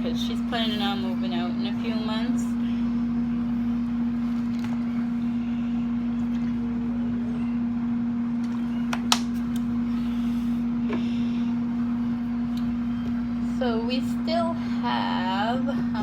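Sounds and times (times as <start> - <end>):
air fryer fan hum: 0.0 - 16.0.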